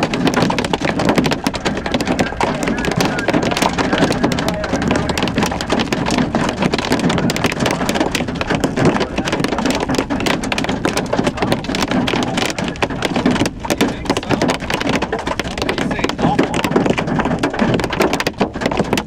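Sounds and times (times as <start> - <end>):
hail hitting a car: 0.0 - 19.0.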